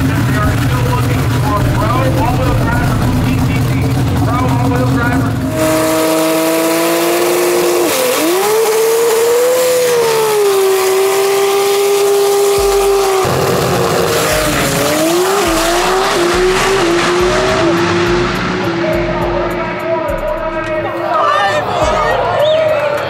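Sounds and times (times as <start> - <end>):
race car engine revving: 0.0 - 22.3.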